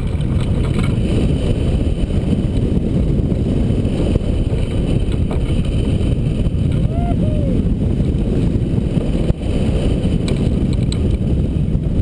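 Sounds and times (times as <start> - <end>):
wind rumble over microphone: 0.0 - 12.0.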